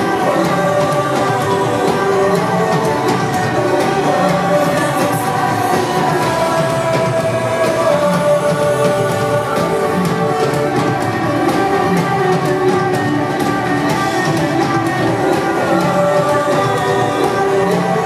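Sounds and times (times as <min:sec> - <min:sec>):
live band playing loud: 0:00.0 - 0:18.0.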